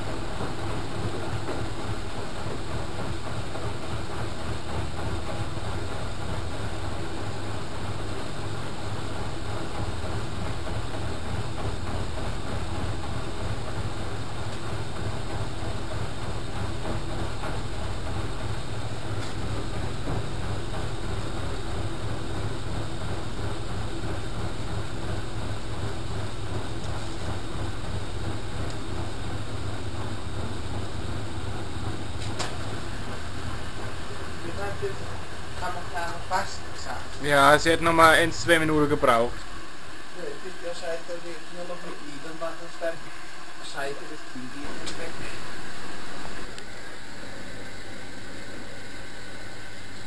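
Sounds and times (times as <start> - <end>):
washing machine running: 0.0 - 50.0.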